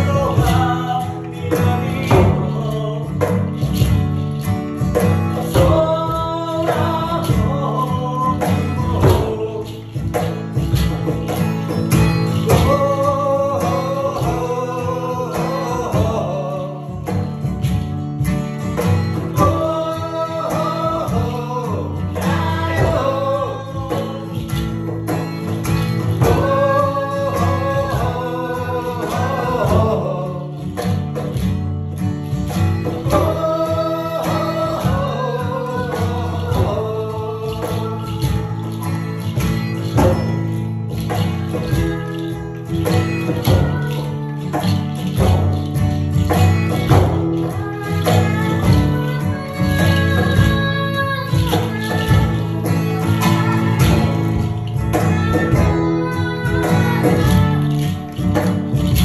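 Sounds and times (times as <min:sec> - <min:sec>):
person singing: 0:00.0 - 0:04.0, 0:04.9 - 0:17.8, 0:18.7 - 0:31.5, 0:32.5 - 0:59.0
acoustic guitar strumming: 0:00.0 - 0:59.0
cajon and frame drum beats: 0:00.0 - 0:59.0.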